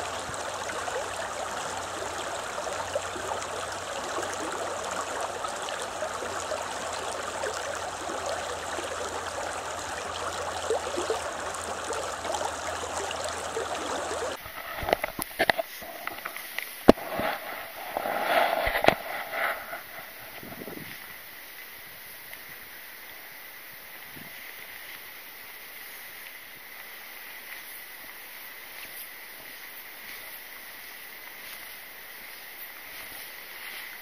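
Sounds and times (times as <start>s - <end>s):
stony river flowing: 0.0s - 34.0s.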